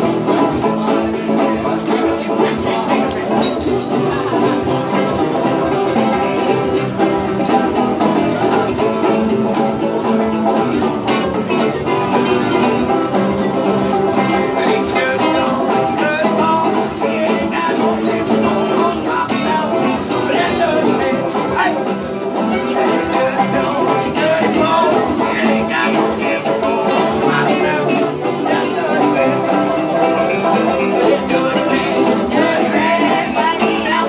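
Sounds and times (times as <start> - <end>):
banjos and guitars playing: 0.0 - 34.0.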